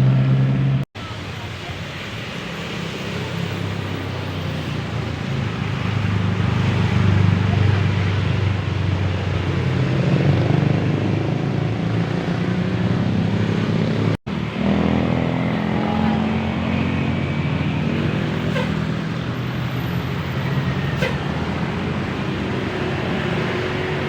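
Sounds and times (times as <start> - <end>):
bus diesel engine rumbling: 0.0 - 24.0.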